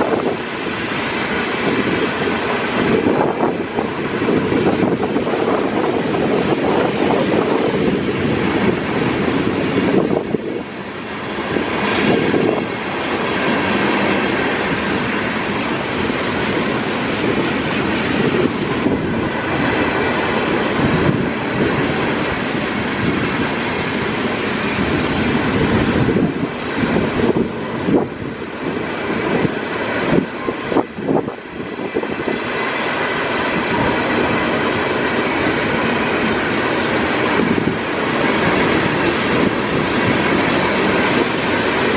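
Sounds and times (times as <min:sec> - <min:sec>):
railcars running by: 0:00.0 - 0:41.9.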